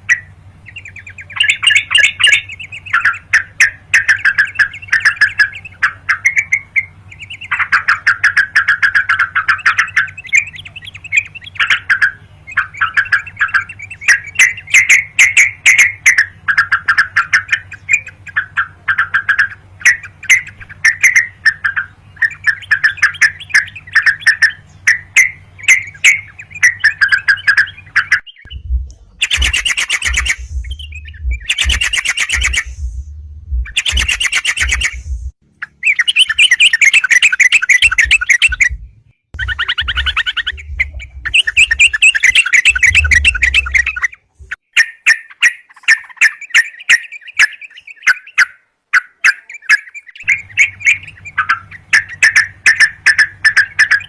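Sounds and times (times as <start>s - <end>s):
bulbul calling: 0.0s - 54.0s.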